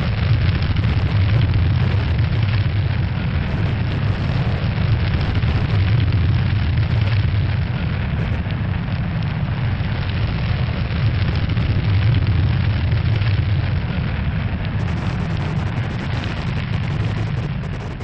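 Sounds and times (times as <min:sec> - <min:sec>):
faint high crackle: 0:00.0 - 0:18.0
low rumble with hiss: 0:00.0 - 0:18.0.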